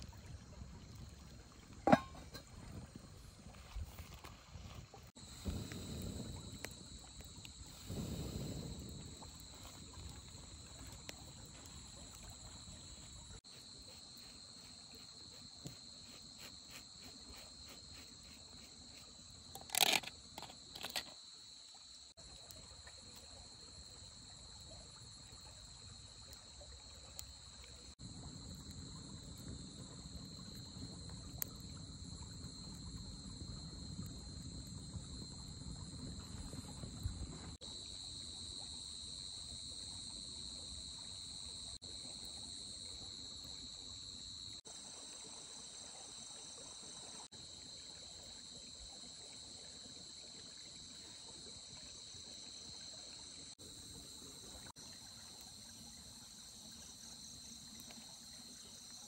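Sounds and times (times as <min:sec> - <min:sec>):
insects trilling: 0:05.2 - 0:59.0.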